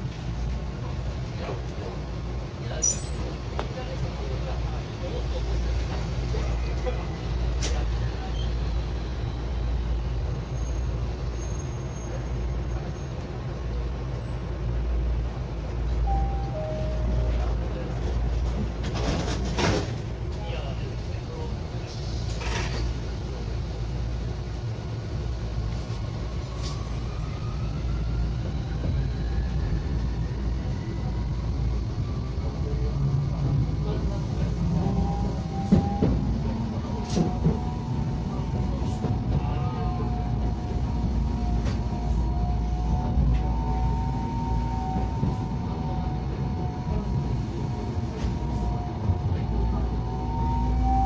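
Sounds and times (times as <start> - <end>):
tram rumble from inside: 0.0 - 51.0.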